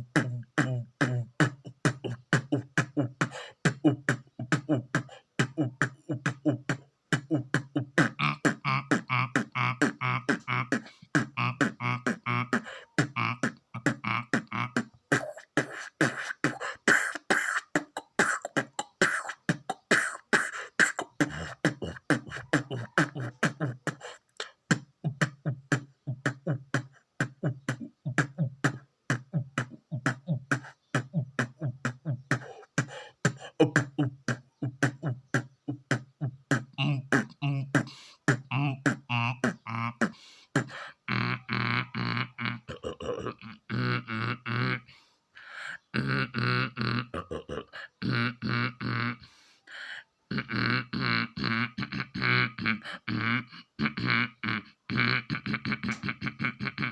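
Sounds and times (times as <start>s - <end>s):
beatboxing drum rhythm: 0.0s - 44.8s, 45.7s - 49.2s, 50.3s - 56.9s.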